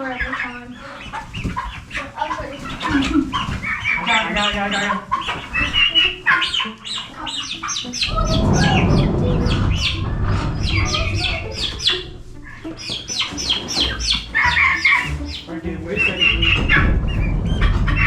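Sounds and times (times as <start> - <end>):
chickens and turkeys squawking: 0.0 - 18.0
rustling scuffling: 0.0 - 18.0.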